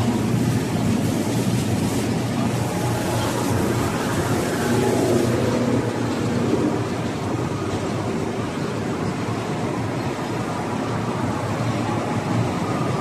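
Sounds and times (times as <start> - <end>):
machinery rumbling: 0.0 - 13.0.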